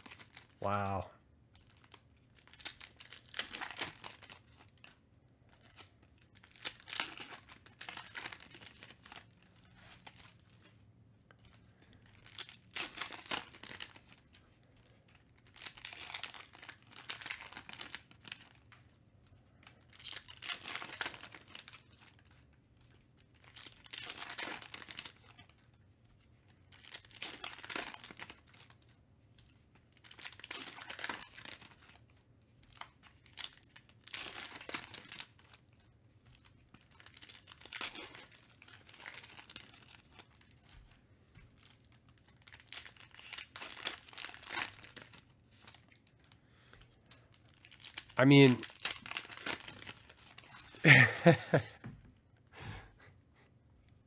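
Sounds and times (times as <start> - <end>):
foil wrappers tearing and crinkling: 0.0 - 0.6, 1.6 - 10.7, 11.4 - 18.8, 19.5 - 25.8, 26.6 - 51.7.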